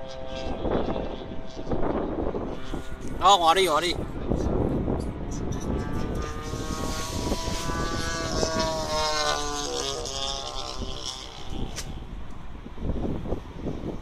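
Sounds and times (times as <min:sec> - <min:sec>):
pitched drone: 0:00.0 - 0:12.8
wind buffeting microphone: 0:00.0 - 0:14.0.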